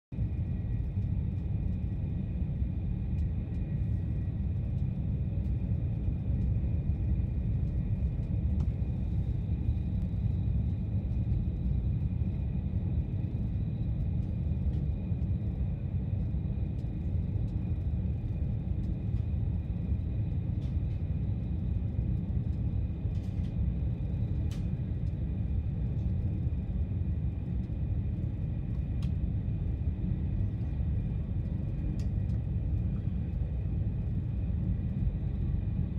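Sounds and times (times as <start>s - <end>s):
train carriage rumble: 0.1s - 35.9s.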